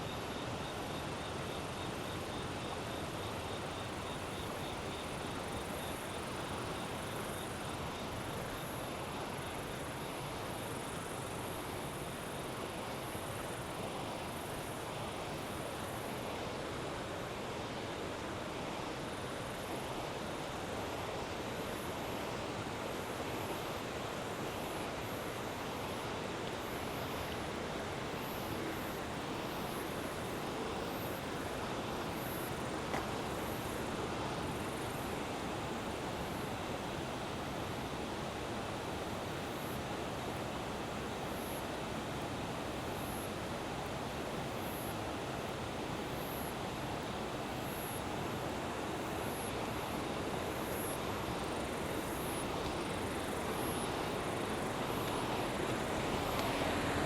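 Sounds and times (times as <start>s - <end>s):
insects chirping: 0.0s - 57.0s
river water rushing: 11.2s - 57.0s.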